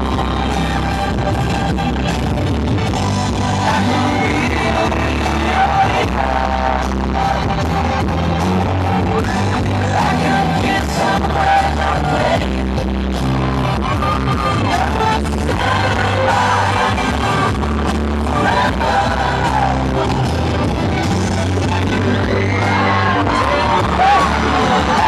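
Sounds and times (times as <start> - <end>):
loud pop music: 0.0 - 25.0.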